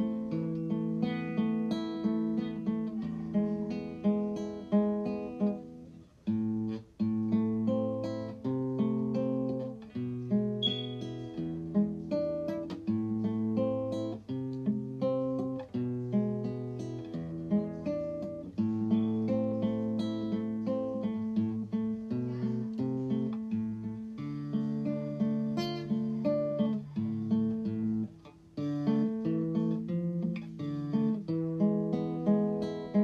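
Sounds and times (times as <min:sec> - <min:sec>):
plucked acoustic guitar tune: 0:00.0 - 0:33.0.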